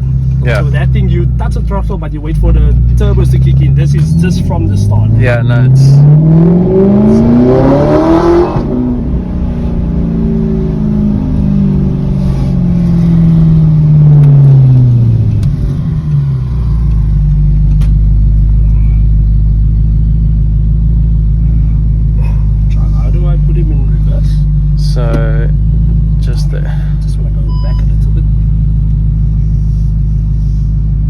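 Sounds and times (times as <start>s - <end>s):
engine idle rumble: 0.0s - 5.0s, 9.0s - 31.0s
car engine accelerating: 0.0s - 31.0s.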